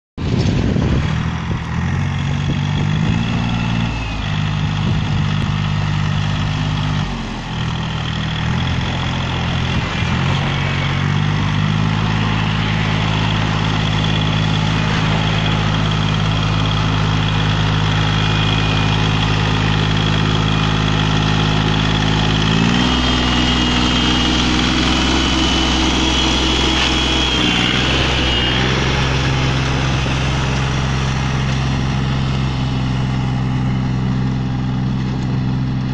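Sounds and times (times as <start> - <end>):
rotary tiller churning soil: 0.2 - 35.9
tractor diesel engine running: 0.2 - 35.9.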